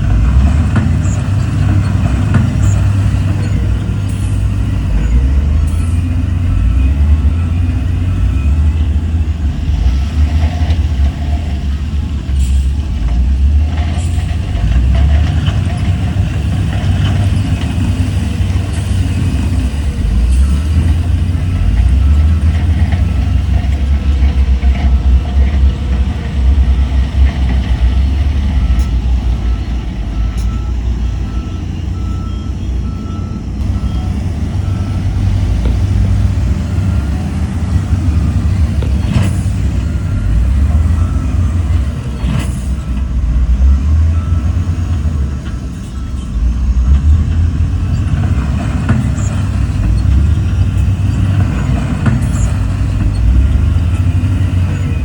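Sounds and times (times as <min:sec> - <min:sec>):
heavy diesel machinery rumbling: 0:00.0 - 0:55.0
reversing alarm beeping: 0:00.9 - 0:11.8, 0:15.3 - 0:55.0.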